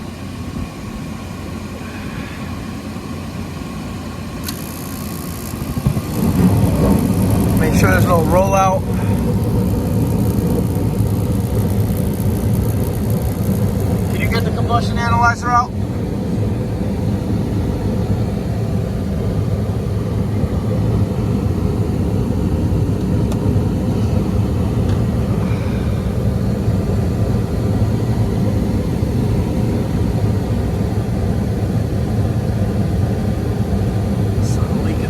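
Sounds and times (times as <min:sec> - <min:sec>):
hvac unit hum and rush: 0:00.0 - 0:35.0.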